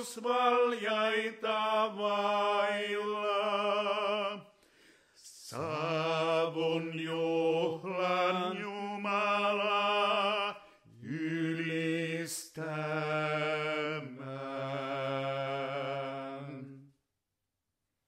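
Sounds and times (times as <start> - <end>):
two men singing in harmony: 0.0 - 4.6, 5.2 - 16.9.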